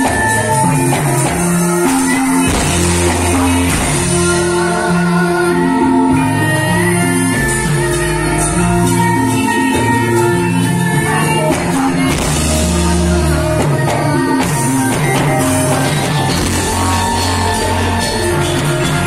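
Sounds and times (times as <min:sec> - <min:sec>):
loud music with bass line: 0:00.0 - 0:19.0.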